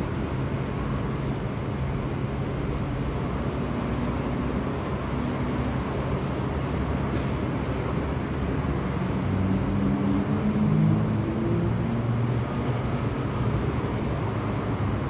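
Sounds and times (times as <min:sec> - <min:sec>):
oven rumble and hiss: 0:00.0 - 0:15.0.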